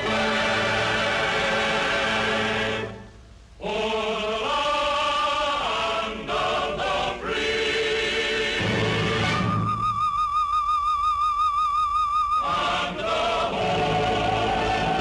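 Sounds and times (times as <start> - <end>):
choir singing: 0.0 - 9.8, 12.4 - 15.0.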